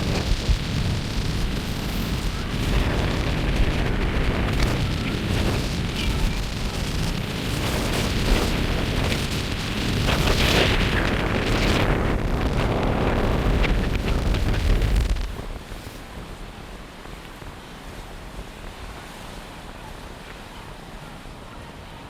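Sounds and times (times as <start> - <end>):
wind buffeting microphone: 0.0 - 21.8.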